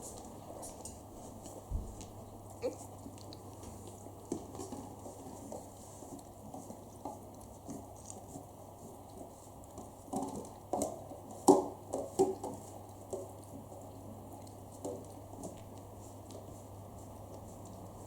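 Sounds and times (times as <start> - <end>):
dog licking and chewing: 0.1 - 18.0.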